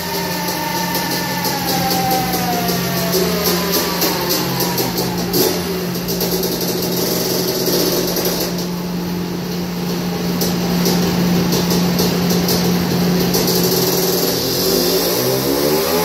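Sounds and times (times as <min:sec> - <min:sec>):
two-stroke engine running: 0:00.0 - 0:14.6.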